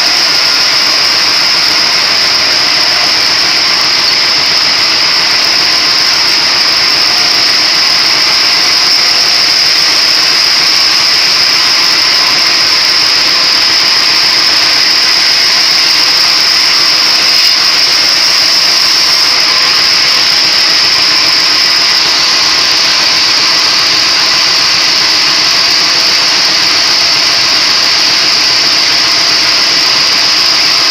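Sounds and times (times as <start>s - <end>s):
high-pitched hiss: 0.0s - 30.9s
splitting machine running: 0.0s - 30.9s.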